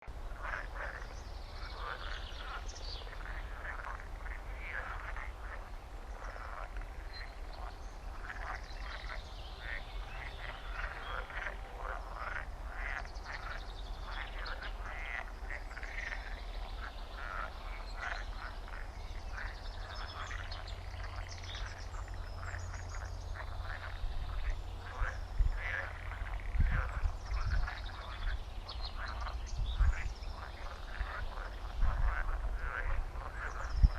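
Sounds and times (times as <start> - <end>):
frogs croaking: 0.0 - 33.9.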